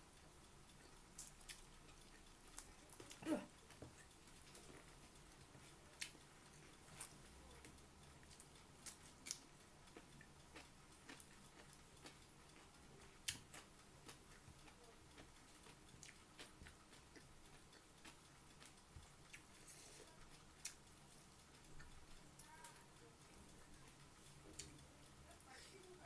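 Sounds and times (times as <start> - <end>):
faint chewing: 0.6 - 26.0.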